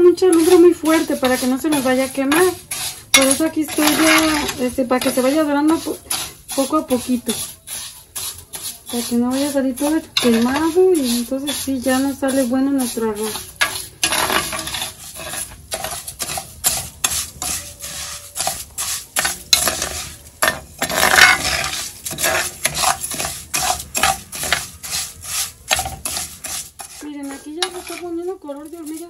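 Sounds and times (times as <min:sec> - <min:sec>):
rice grains rustling: 0:00.0 - 0:29.0
spatula scraping clay pot: 0:00.0 - 0:29.0.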